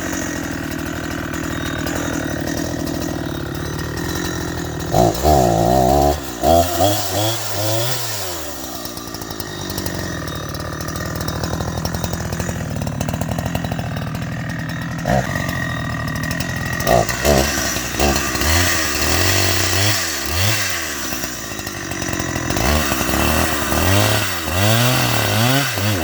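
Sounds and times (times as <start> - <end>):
chainsaw idling and revving: 0.0 - 26.0.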